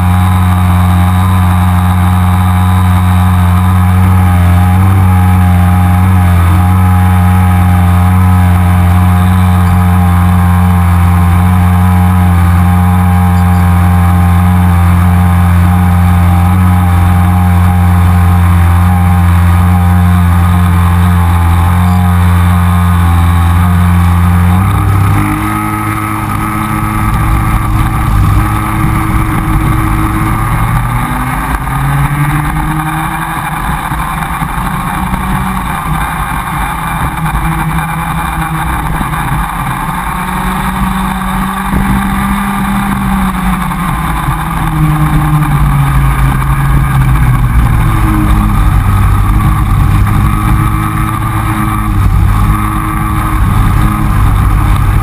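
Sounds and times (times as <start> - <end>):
kart two-stroke engine revving: 0.0 - 55.0
other kart engines: 0.0 - 55.0.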